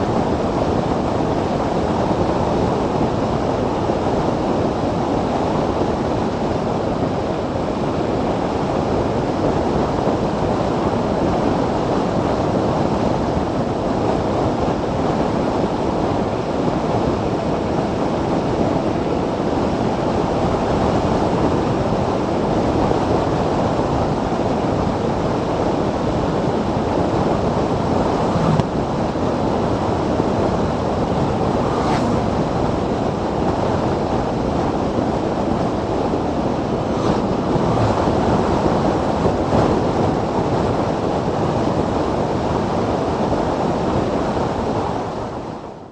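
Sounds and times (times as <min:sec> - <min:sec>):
wind buffeting microphone: 0:00.0 - 0:45.5.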